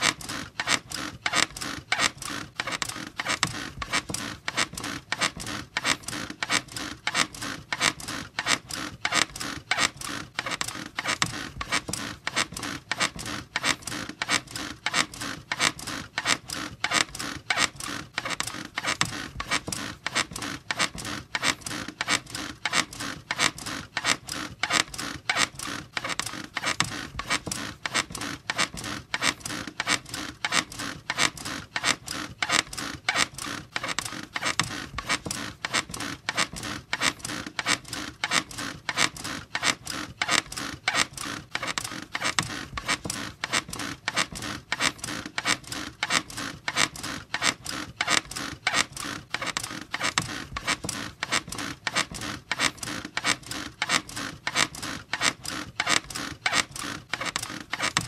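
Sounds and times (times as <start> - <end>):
squeaky bed creaking: 0.0 - 58.0.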